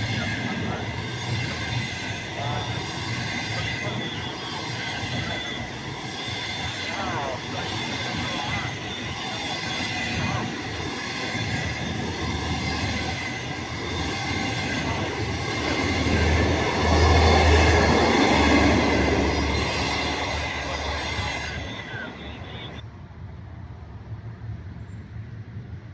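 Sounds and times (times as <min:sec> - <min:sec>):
high wheel squealing: 0:00.0 - 0:22.8
low train rumble: 0:00.0 - 0:25.9
train wheels on rails: 0:00.0 - 0:25.9.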